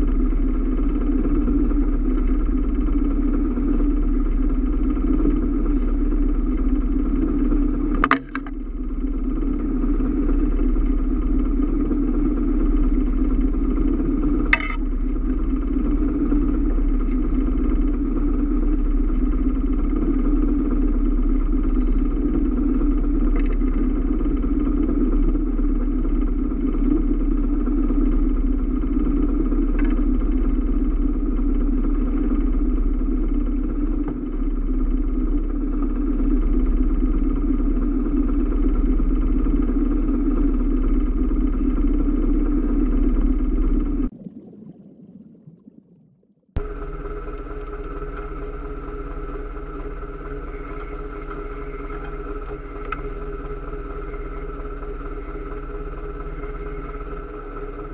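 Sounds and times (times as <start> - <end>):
boat engine running: 0.0 - 44.2, 46.5 - 57.9.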